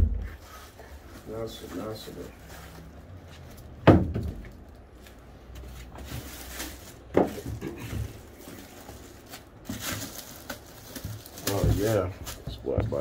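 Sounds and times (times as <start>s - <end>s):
plastic bag rustling: 0.0s - 3.8s, 4.4s - 13.0s.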